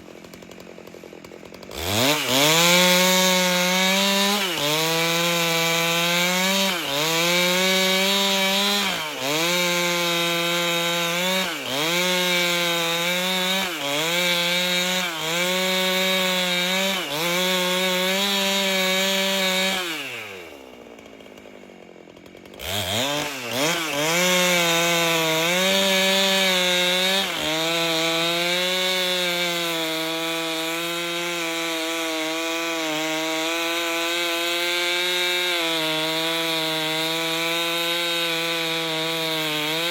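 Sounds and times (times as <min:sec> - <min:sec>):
chainsaw cutting log: 0:00.0 - 0:39.9
chainsaw idling: 0:00.0 - 0:39.9.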